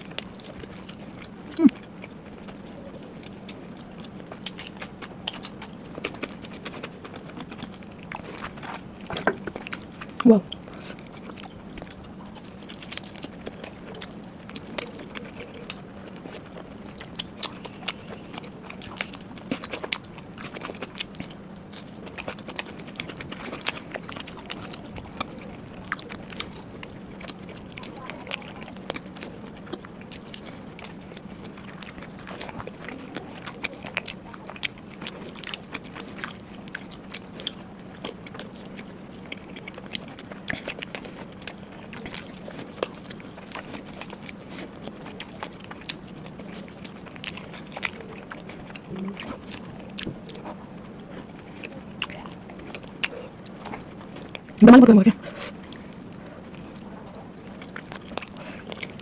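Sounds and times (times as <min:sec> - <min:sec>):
faint steady hum: 0:00.0 - 0:59.0
wet chewing clicks and smacks: 0:00.0 - 0:59.0.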